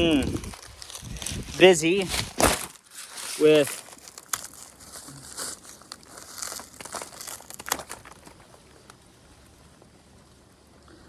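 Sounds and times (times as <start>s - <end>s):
dry corn stalks crunching: 0.0s - 10.1s.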